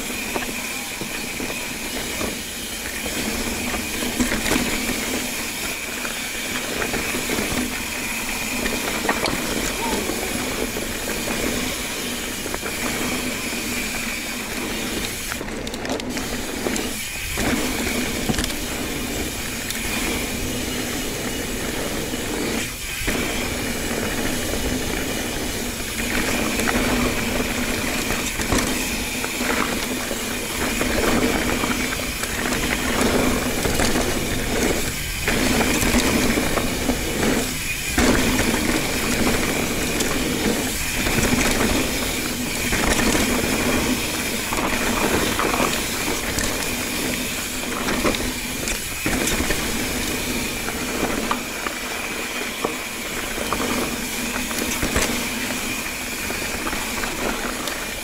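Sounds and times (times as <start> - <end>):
bike tyres rolling over dirt: 0.0 - 58.0.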